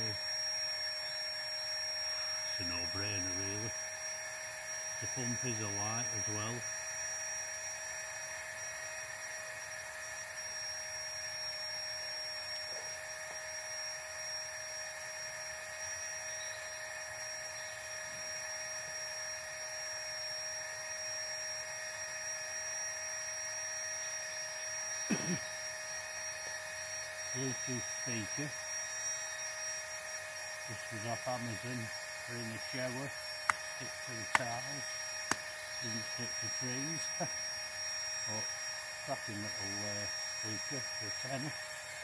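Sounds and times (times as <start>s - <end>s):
air pump whining: 0.0s - 42.0s.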